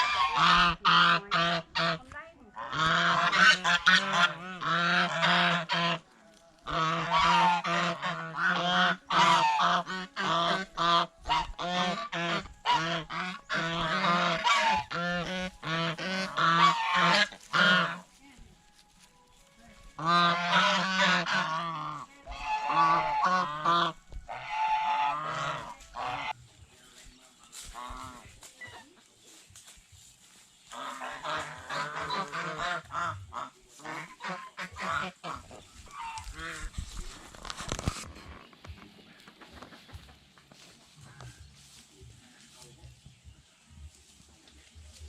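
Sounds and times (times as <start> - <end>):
geese honking: 0.0 - 45.0.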